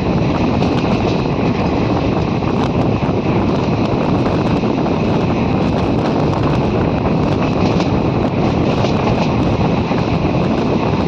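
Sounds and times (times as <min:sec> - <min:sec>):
train wheels rumbling on rails: 0:00.0 - 0:11.0
wind rushing on microphone: 0:00.0 - 0:11.0.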